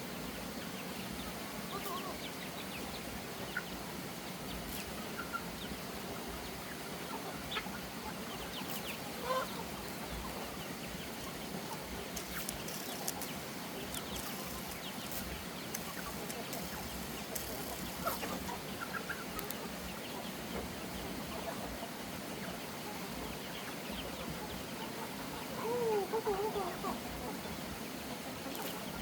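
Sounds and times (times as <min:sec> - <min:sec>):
outdoor background hiss: 0:00.0 - 0:29.0
chickens clucking: 0:00.6 - 0:29.0.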